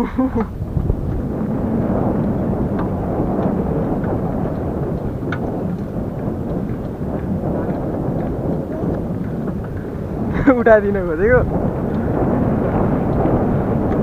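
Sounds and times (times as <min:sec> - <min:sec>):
tyre noise on road: 0:00.0 - 0:14.0
wind rumble on microphone: 0:00.0 - 0:14.0.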